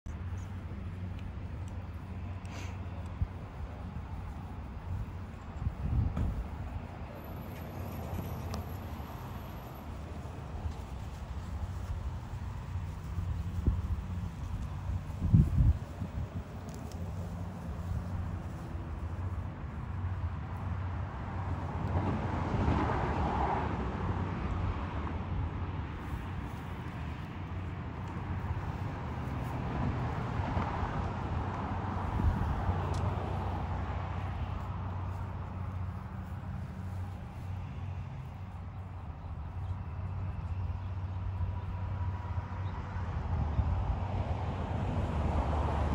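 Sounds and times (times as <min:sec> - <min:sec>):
steady low traffic hum: 0:00.1 - 0:45.9
vehicles passing: 0:00.1 - 0:45.9.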